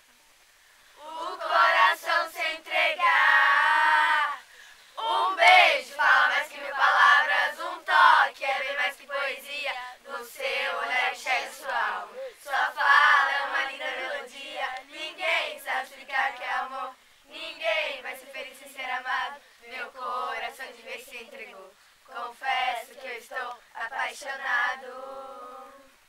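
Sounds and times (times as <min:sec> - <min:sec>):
young voices singing together: 0:00.9 - 0:26.0.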